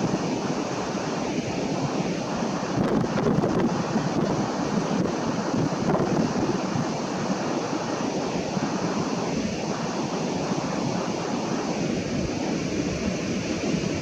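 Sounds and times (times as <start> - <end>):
wind blowing over microphone: 0.0 - 14.0.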